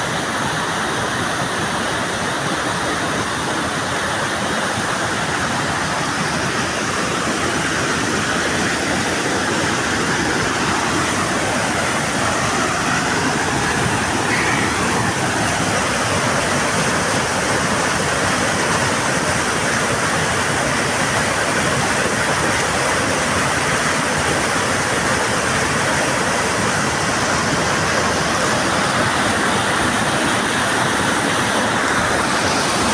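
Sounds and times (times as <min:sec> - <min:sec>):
stream rushing over rocks: 0:00.0 - 0:32.9.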